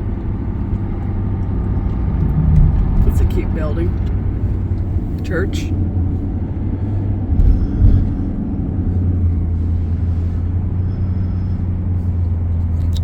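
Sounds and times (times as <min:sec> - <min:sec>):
low bumps: 0:00.0 - 0:13.0
vehicle engine drone and road noise: 0:00.0 - 0:13.0.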